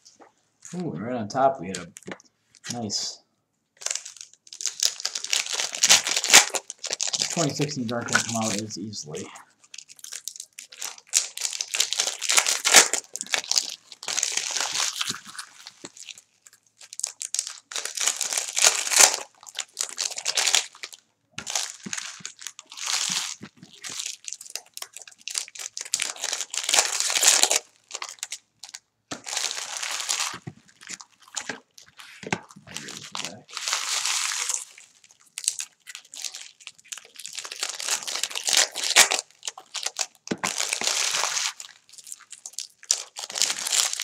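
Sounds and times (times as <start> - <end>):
card pack wrappers tearing: 3.8 - 44.0.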